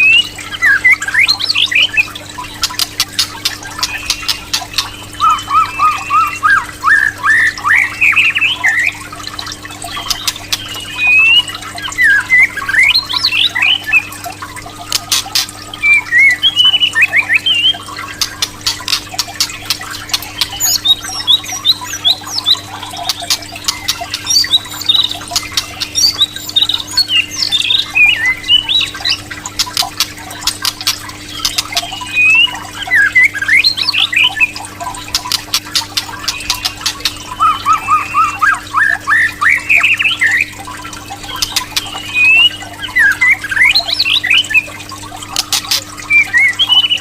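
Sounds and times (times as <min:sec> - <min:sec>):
bird singing whistles and clicks: 0:00.0 - 0:09.0, 0:09.9 - 0:14.1, 0:14.8 - 0:40.6, 0:41.2 - 0:44.7, 0:45.3 - 0:47.0
faint steady hum: 0:00.0 - 0:47.0.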